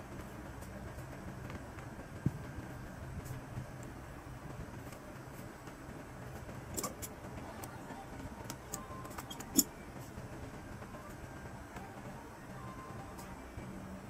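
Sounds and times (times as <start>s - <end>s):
steady low background hum: 0.0s - 14.0s.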